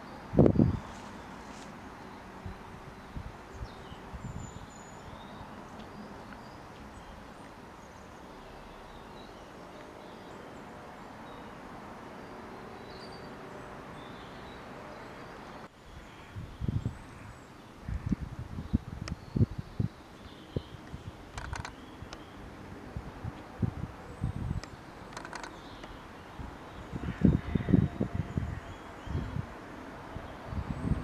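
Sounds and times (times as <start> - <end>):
small birds chirping: 0.0 - 22.6, 23.2 - 31.0.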